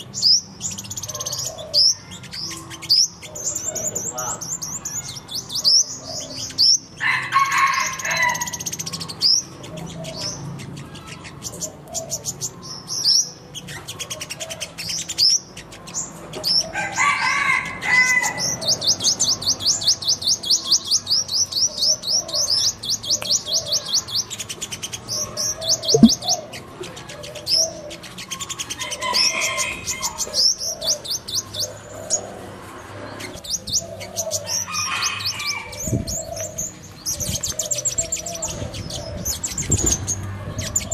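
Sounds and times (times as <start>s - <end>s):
sunbirds singing: 0.0s - 40.9s.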